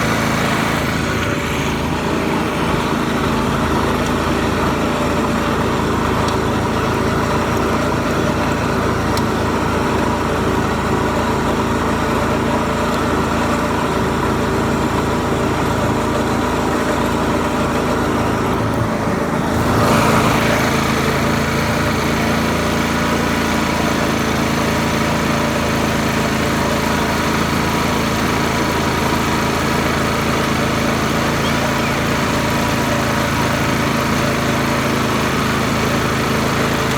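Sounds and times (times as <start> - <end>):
tractor engine running and revving: 0.0 - 36.9.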